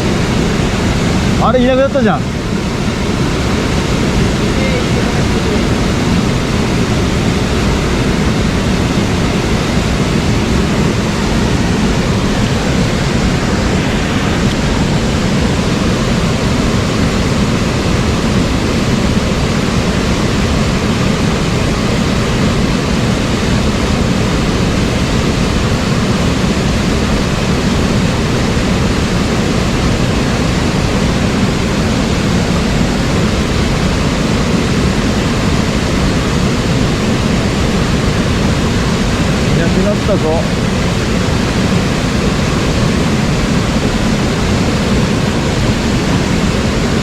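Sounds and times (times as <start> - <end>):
stream rushing over rocks: 0.0 - 47.0.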